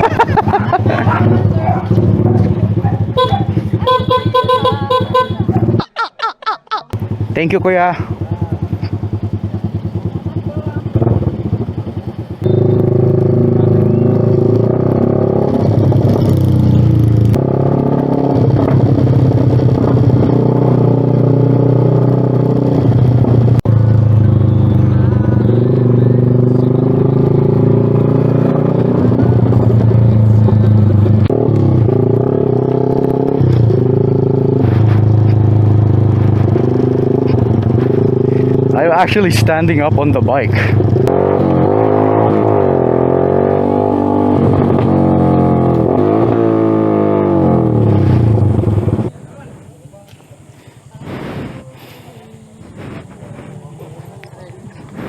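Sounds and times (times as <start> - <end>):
motorcycle engine revving: 0.0 - 5.9, 6.9 - 55.0.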